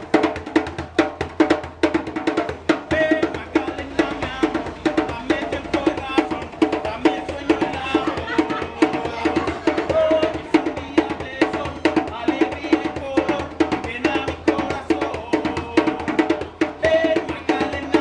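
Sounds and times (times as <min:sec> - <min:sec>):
lively percussion music: 0:00.0 - 0:18.0.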